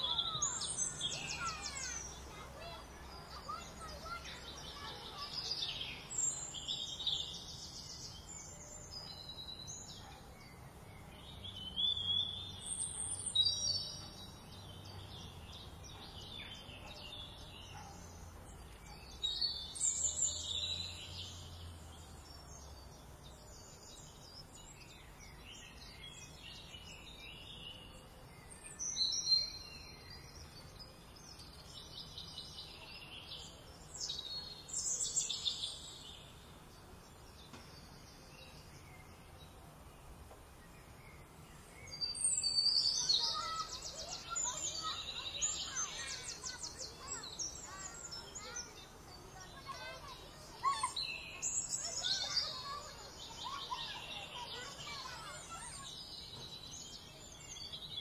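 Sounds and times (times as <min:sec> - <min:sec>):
songbirds chirping and whistling: 0:00.0 - 0:58.0.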